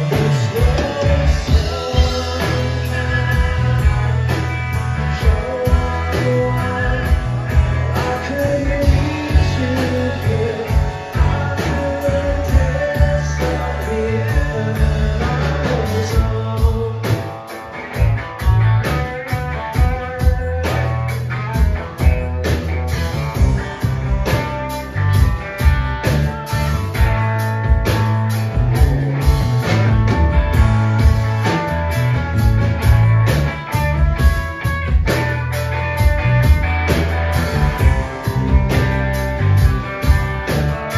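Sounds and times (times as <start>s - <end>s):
drum kit with cymbals: 0.0s - 40.9s
electric bass: 0.0s - 40.9s
electric guitar: 0.0s - 40.9s.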